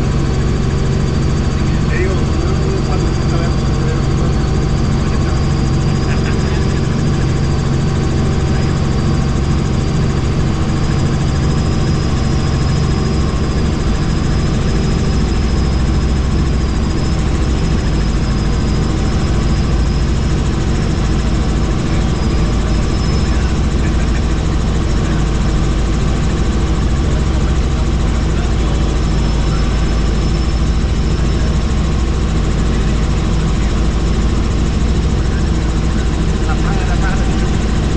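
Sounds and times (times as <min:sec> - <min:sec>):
helicopter engine and rotor drone: 0:00.0 - 0:37.9
high whine: 0:00.0 - 0:37.9.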